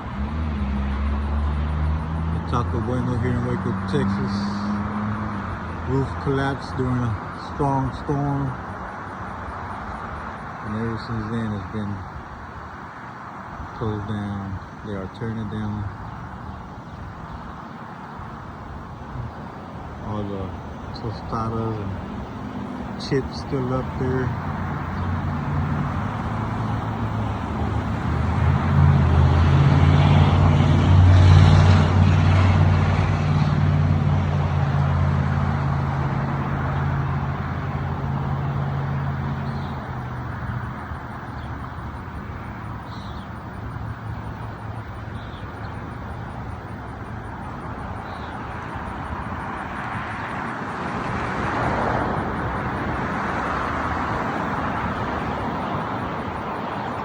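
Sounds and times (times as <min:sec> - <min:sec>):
engine running close by: 0:00.0 - 0:10.0, 0:15.0 - 0:57.0
road traffic noise: 0:00.0 - 0:57.0.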